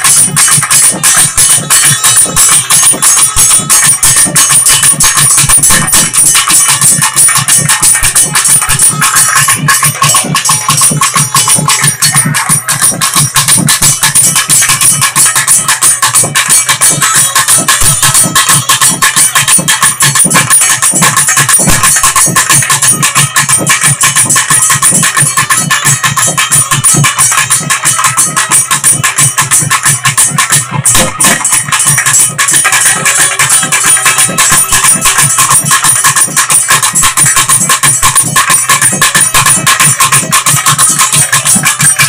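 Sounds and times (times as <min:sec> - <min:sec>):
high metallic shimmer: 0:00.0 - 0:42.0
loud fast drumming: 0:00.0 - 0:42.0.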